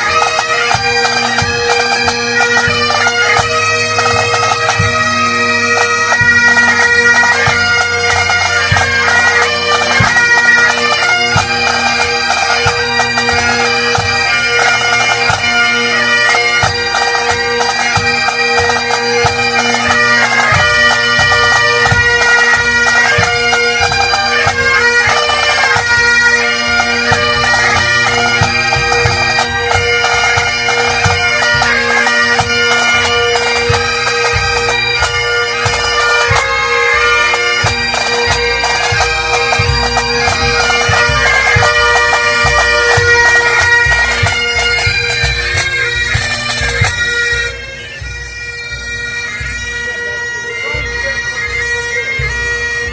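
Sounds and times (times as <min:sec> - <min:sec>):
bagpipe band playing: 0:00.0 - 0:52.9.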